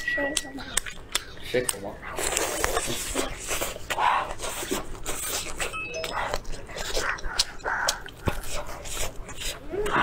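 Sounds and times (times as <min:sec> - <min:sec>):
close-miked chewing: 0:00.0 - 0:10.0.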